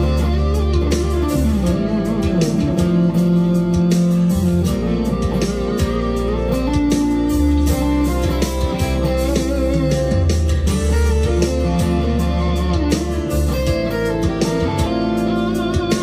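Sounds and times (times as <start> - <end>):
electric guitar lead with string bends: 0.0 - 16.0.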